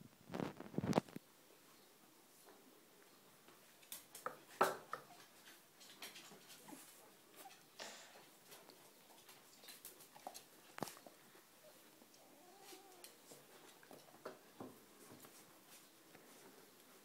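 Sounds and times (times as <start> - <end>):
soft clicks and rustles: 0.2 - 17.0.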